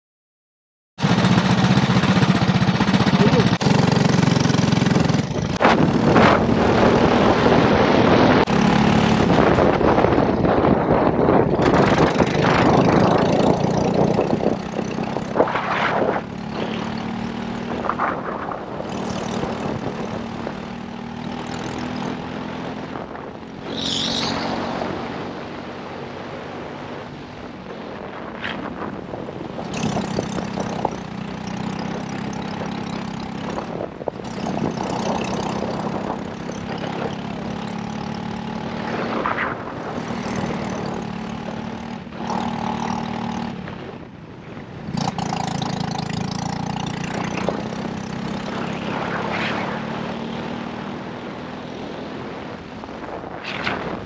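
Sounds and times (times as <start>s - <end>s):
kart engine revving: 1.0s - 25.8s, 29.4s - 43.6s, 44.9s - 52.2s
wind on microphone: 4.8s - 54.0s.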